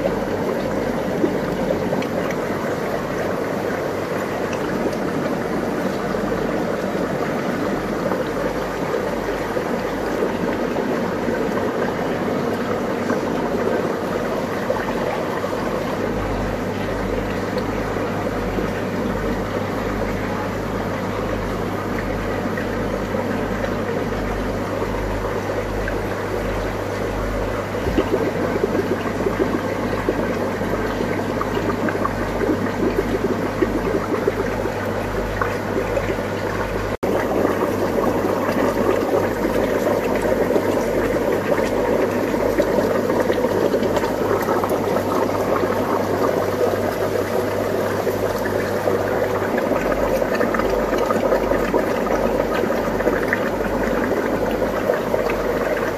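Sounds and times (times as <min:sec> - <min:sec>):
aquarium water bubbling: 0:00.0 - 0:55.9
steady low hum: 0:00.0 - 0:55.9.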